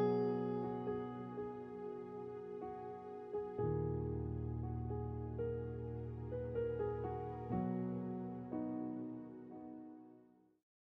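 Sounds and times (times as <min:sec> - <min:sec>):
soft keyboard chords: 0:00.0 - 0:10.3.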